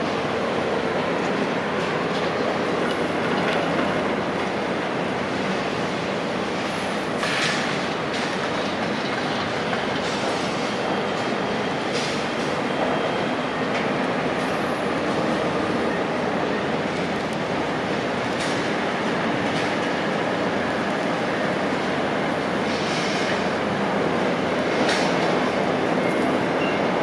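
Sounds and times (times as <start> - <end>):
heavy machinery running: 0.0 - 27.0.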